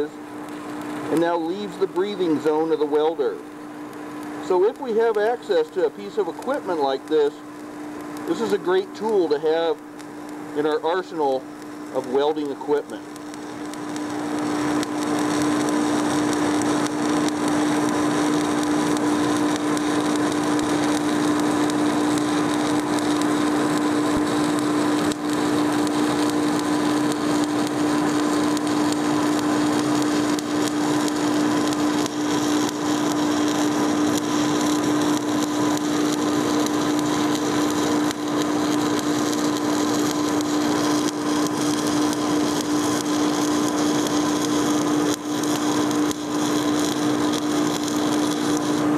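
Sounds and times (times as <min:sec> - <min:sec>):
extraction fan humming: 0:00.0 - 0:48.9
welding arc crackling: 0:00.0 - 0:48.9.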